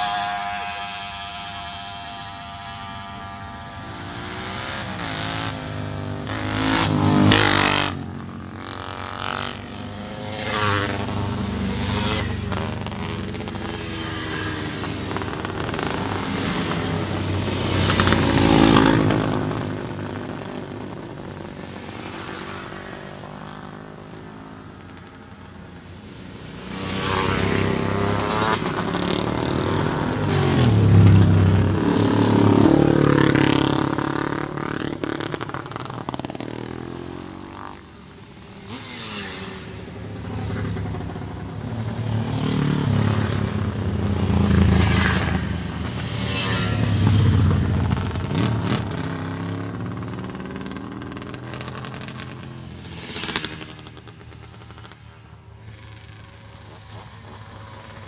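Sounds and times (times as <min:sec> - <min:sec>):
racing motorcycles passing: 0:00.0 - 0:58.0.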